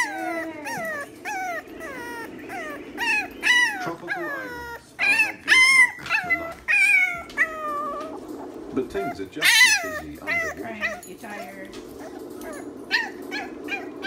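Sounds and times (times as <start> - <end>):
puppy yelps: 0.0 - 8.2, 8.9 - 11.1, 12.0 - 14.0
puppy whining: 0.0 - 14.0.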